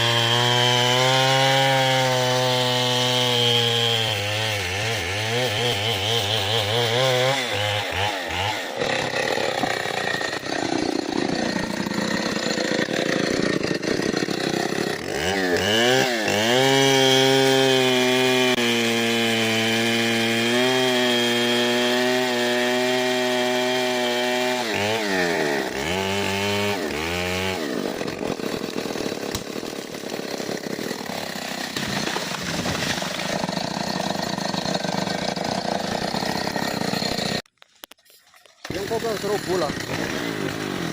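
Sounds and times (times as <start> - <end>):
chainsaw cutting wood: 0.0 - 38.0, 38.6 - 40.9.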